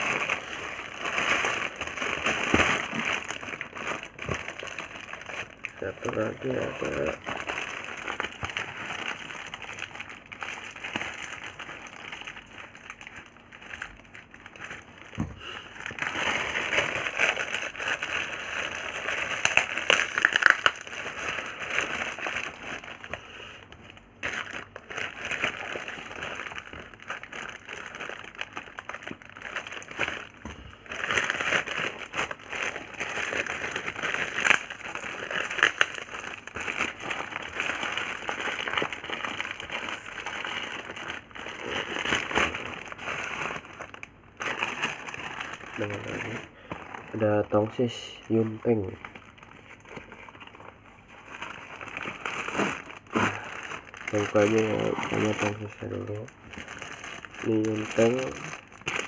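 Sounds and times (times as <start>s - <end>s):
plastic packaging crinkling: 0.0s - 59.0s.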